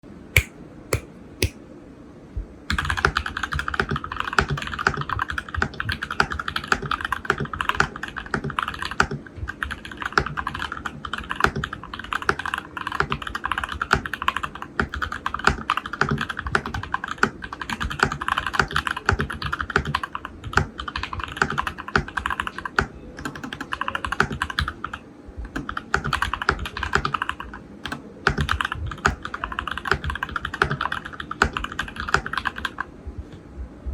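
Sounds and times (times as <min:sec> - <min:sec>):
fast typing on mechanical keyboard: 0:02.7 - 0:32.8.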